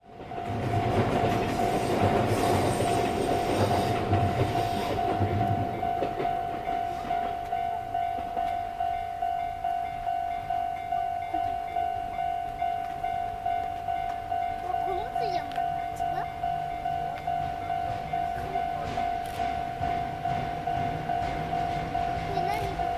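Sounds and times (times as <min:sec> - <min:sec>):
level crossing alarm ringing: 0:00.0 - 0:22.9
train wheels rumbling and clacking: 0:00.0 - 0:22.9.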